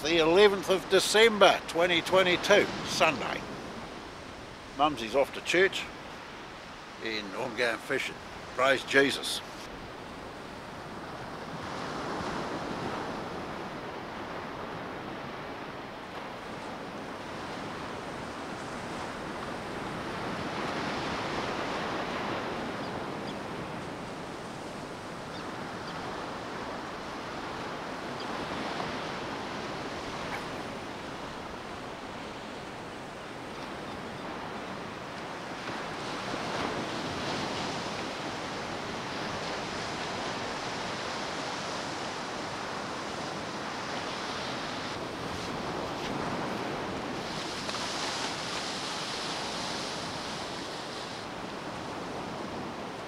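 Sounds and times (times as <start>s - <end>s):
ocean surf breaking on beach: 0.0s - 53.0s.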